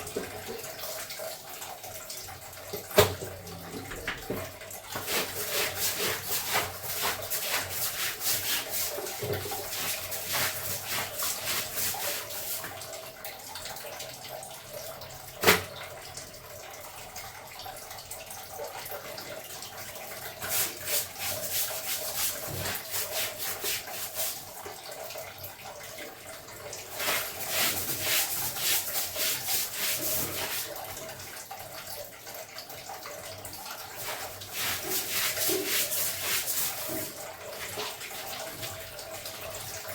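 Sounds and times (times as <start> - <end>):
clothes washed by hand in water: 0.0 - 39.9.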